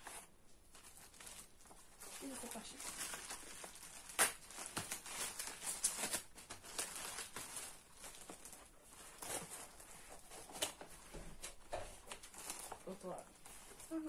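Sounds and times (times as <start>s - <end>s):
packaging rustling and crinkling: 0.0s - 14.0s.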